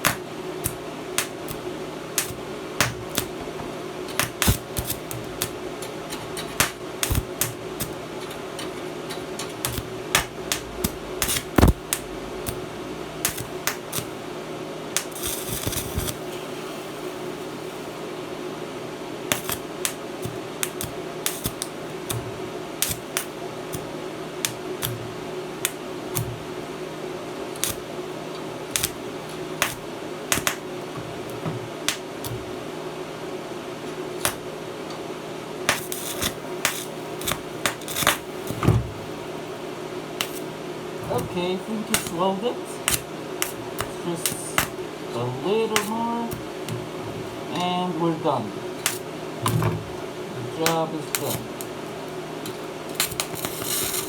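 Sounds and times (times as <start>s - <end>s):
welding arc crackling: 0.0s - 18.2s, 19.2s - 26.6s, 27.4s - 28.0s, 28.6s - 32.6s, 35.7s - 39.6s, 40.2s - 49.2s, 50.4s - 52.0s, 52.9s - 54.0s
welding machine hum: 0.0s - 54.0s.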